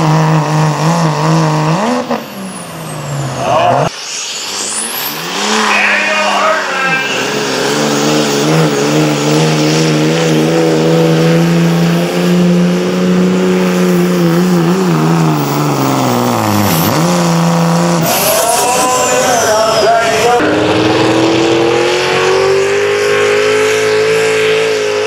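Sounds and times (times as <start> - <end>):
diesel engine at full throttle: 0.0 - 25.0.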